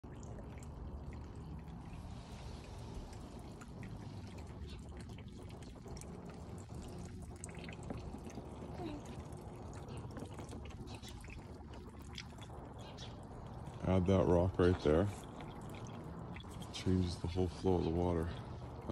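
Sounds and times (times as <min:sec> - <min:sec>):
steady low water wash: 0:00.0 - 0:18.9
water dripping into pond: 0:00.0 - 0:18.9.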